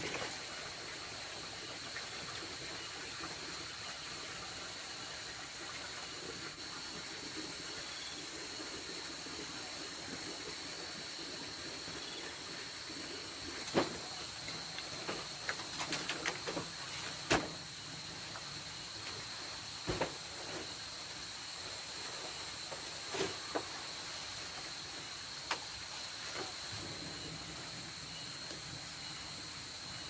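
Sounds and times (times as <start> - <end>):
night insects chorus: 0.0 - 30.0.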